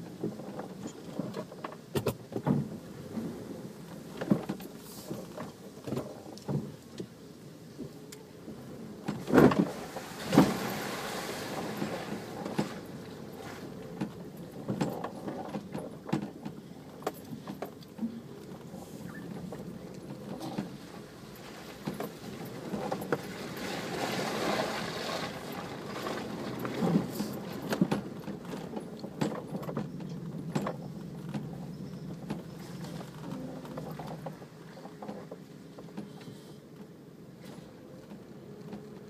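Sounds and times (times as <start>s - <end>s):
off-road vehicle engine drone: 0.0s - 39.0s.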